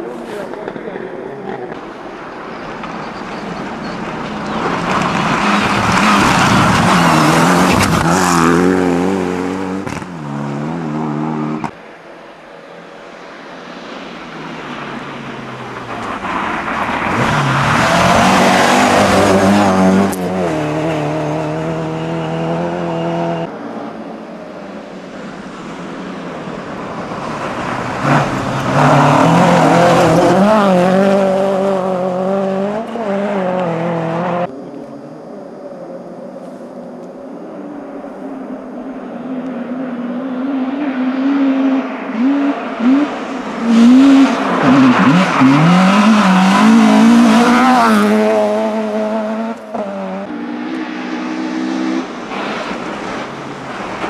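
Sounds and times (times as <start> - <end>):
rally cars passing at speed: 0.0 - 54.0.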